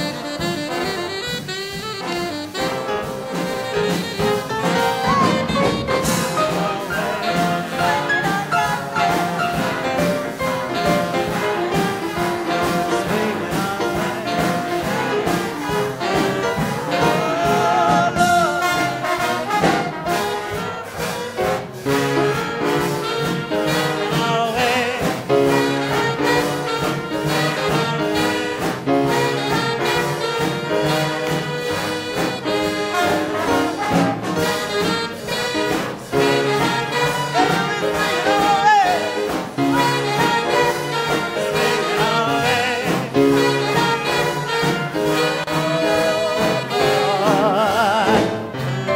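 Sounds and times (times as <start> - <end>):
big band swing jazz: 0.0 - 48.9
trombones and trumpets: 0.0 - 48.9.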